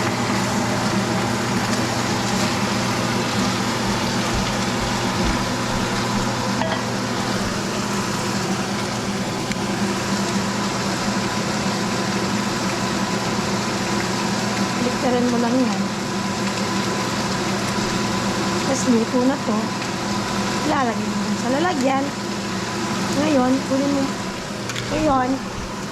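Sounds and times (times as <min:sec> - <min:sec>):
shrimp sizzling in hot oil: 0:00.0 - 0:25.9.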